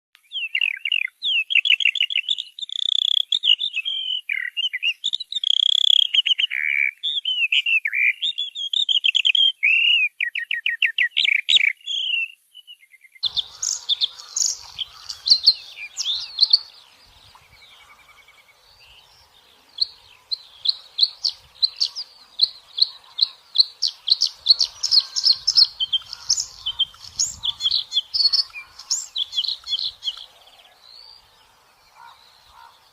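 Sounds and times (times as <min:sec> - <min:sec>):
songbirds singing: 0:00.2 - 0:32.9.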